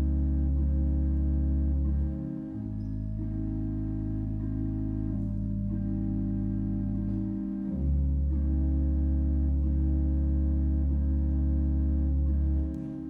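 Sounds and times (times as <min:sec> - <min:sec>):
deep organ bass note: 0:00.0 - 0:13.0
organ sustained chords: 0:00.0 - 0:13.0.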